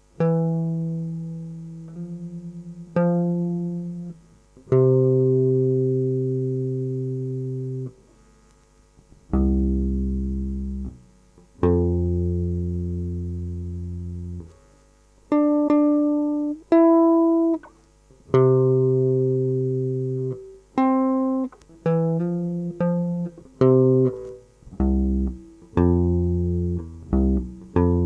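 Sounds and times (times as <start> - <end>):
guitar picking single notes: 0.0 - 8.0, 9.3 - 14.6, 15.3 - 28.0.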